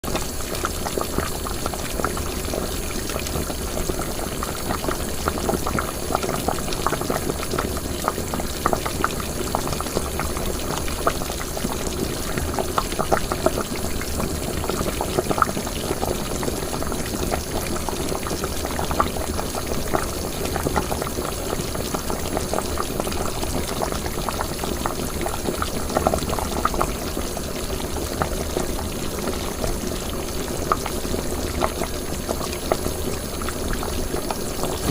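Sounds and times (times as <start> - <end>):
liquid boiling in a pot: 0.0 - 34.9.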